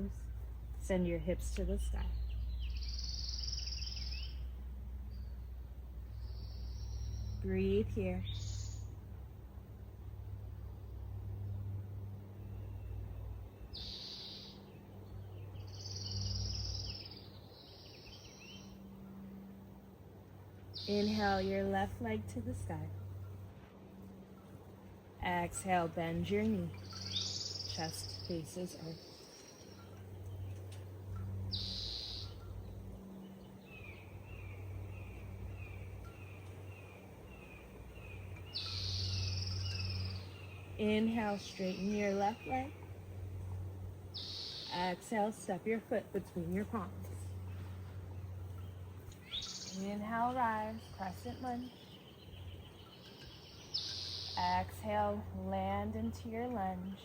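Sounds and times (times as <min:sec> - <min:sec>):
birds chirping and trilling: 0:00.0 - 0:09.2, 0:10.3 - 0:23.5, 0:24.1 - 0:57.0
low outdoor rumble: 0:00.0 - 0:57.0
steady low hum: 0:00.0 - 0:57.0.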